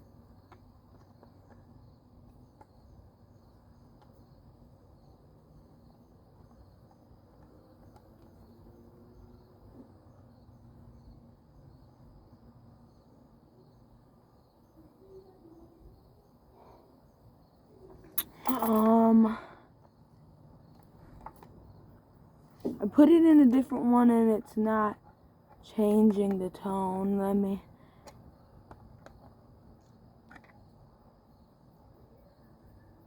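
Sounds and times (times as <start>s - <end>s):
crickets chirping faintly: 0.0s - 33.0s
low background hum: 0.0s - 33.0s.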